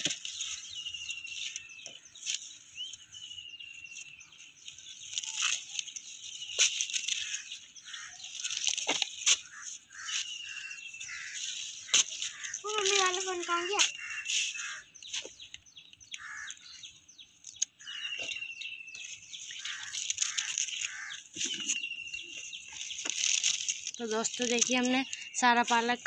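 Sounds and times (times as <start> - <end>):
leaves rustling: 0.0 - 15.6, 19.0 - 26.0.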